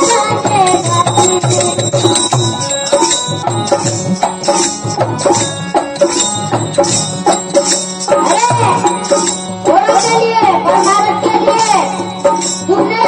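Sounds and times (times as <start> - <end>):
drum quick steady beat: 0.0 - 12.7.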